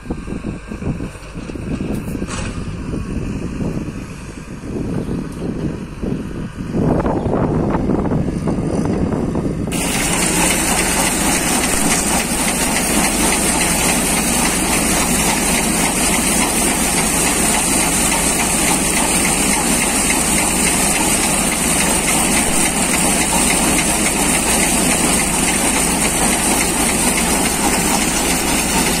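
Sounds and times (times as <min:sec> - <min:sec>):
threshing machine running: 0:00.0 - 0:06.2, 0:06.8 - 0:29.0
excavator engine running: 0:00.0 - 0:29.0.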